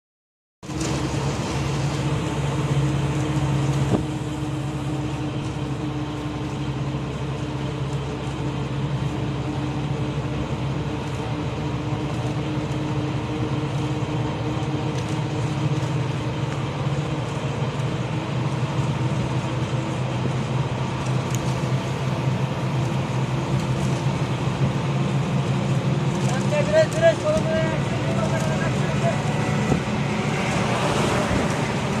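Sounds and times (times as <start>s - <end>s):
road noise: 0.6s - 32.0s
vehicle engine hum: 0.6s - 32.0s.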